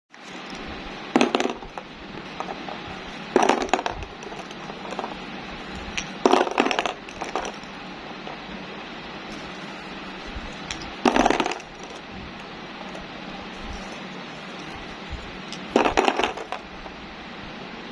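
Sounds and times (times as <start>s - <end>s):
steady background hum: 0.1s - 17.9s
plastic toy balls clattering: 0.2s - 8.4s, 9.3s - 12.0s, 12.8s - 16.6s.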